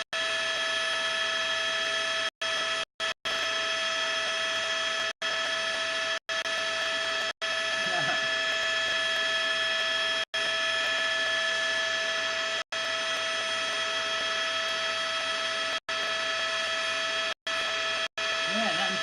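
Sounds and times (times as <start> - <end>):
electronic whine of held tones: 0.0 - 19.0.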